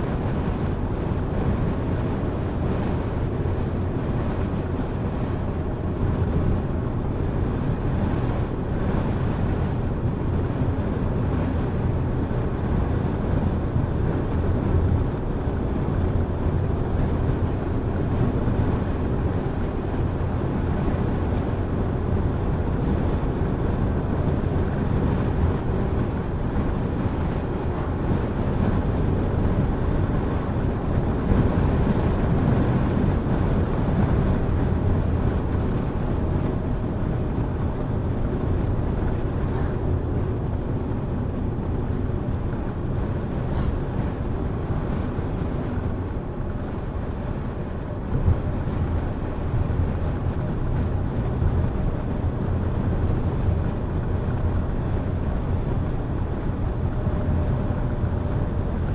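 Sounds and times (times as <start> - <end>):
car driving rumble: 0.0 - 58.9.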